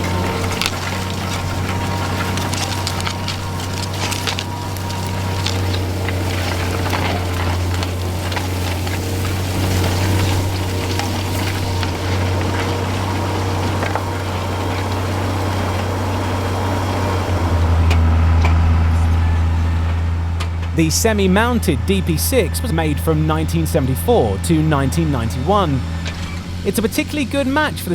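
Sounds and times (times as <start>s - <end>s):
tractor diesel engine drone: 0.0s - 27.9s.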